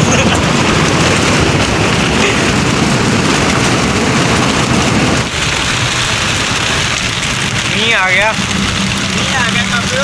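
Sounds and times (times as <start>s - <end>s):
heavy rain on moving vehicle: 0.0s - 10.0s
low road rumble: 0.0s - 10.0s.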